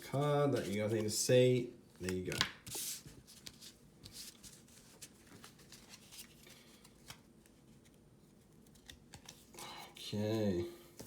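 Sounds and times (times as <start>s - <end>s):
trading cards rustling and clicking: 0.2s - 10.1s.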